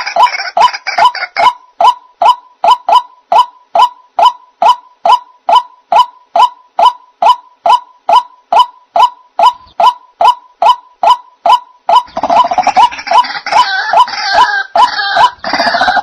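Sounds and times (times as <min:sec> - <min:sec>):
waterhen honking call: 0:00.0 - 0:16.0.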